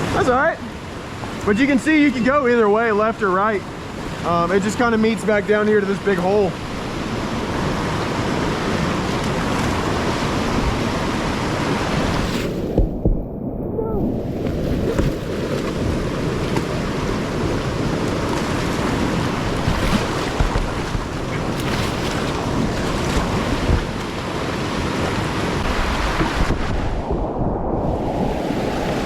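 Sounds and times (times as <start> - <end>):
rushing whitewater: 0.0 - 12.3, 14.4 - 27.0.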